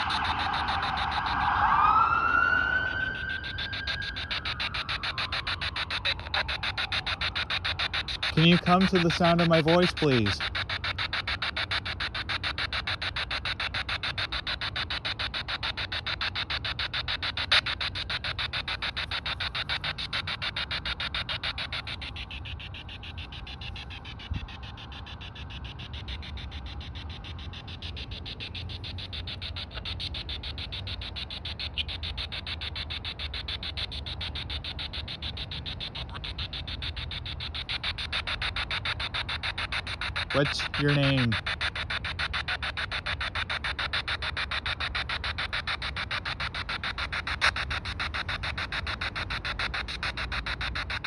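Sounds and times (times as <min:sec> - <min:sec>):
choppy radio static bursts: 0:00.0 - 0:01.5, 0:03.2 - 0:51.0.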